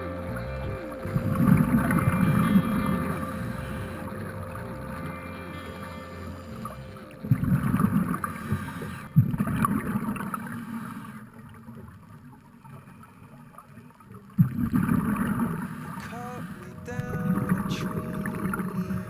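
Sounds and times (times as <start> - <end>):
underwater exhaust bubbles: 0.0 - 19.0.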